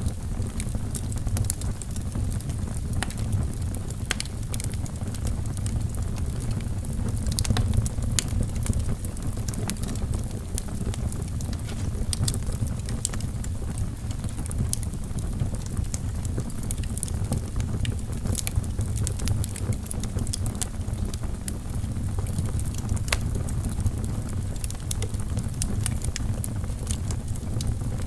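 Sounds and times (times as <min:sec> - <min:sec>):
logs crackling and popping: 0:00.0 - 0:28.0
low rumble of flames: 0:00.0 - 0:28.0.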